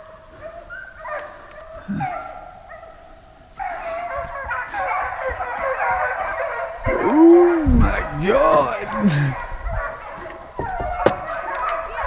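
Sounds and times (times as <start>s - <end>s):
hounds baying and barking: 0.0s - 12.0s.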